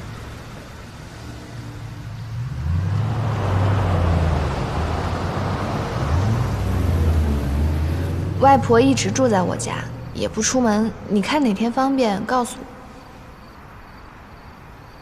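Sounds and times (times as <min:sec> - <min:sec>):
vehicle engine hum: 0:00.0 - 0:14.9
road noise: 0:00.0 - 0:15.0.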